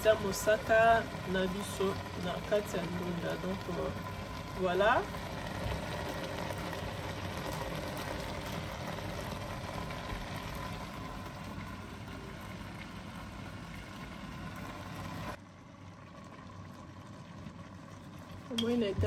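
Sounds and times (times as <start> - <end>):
pot simmering hiss: 0.0 - 19.0.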